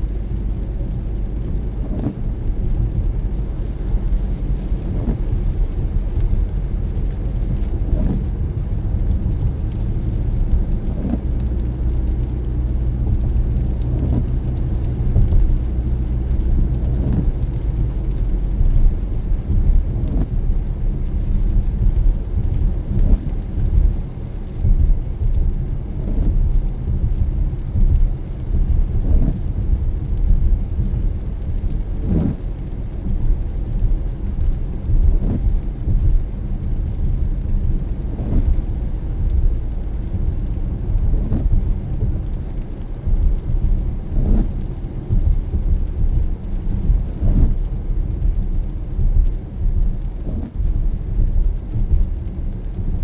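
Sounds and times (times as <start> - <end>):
car tyres and engine rumble: 0.0 - 53.0.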